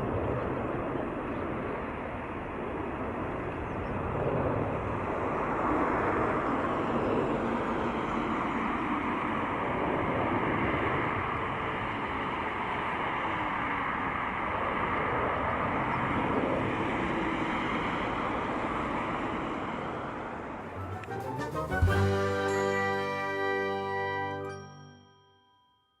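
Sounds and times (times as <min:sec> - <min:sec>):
jet engine roar at takeoff: 0:00.0 - 0:21.0.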